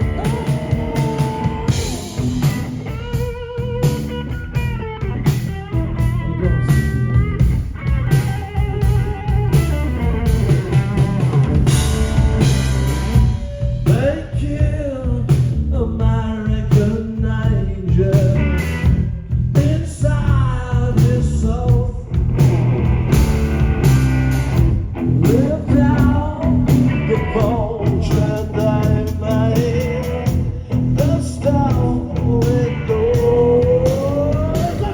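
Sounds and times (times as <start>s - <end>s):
electric guitar lead line: 0.0s - 14.8s, 18.1s - 19.4s, 20.9s - 34.9s
bass: 0.0s - 34.9s
drums: 0.0s - 34.9s.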